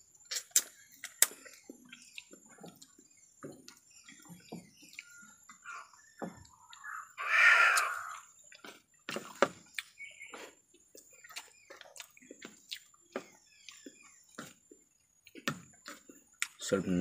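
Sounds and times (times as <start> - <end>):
lip-smacking and chewing: 0.2 - 6.9, 7.7 - 16.6.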